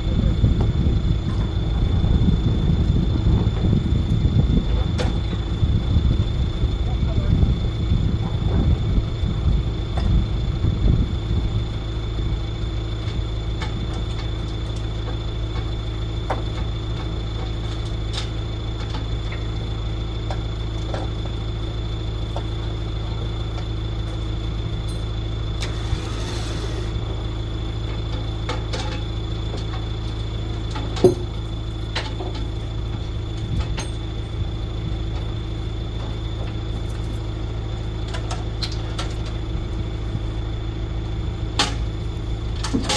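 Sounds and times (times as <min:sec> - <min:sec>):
vehicle engine droning: 0:00.0 - 0:42.9.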